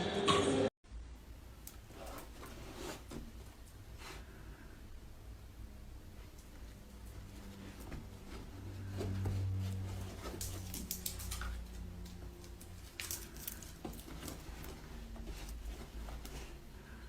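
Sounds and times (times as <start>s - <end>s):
low hum: 3.3s - 17.0s.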